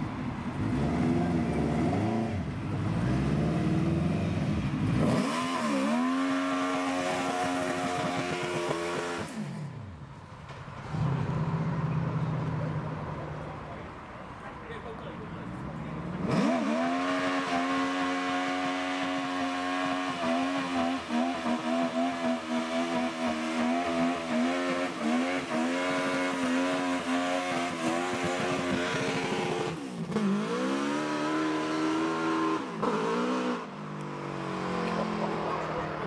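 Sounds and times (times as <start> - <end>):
car engine revving hard: 0.6 - 9.8, 16.0 - 36.0.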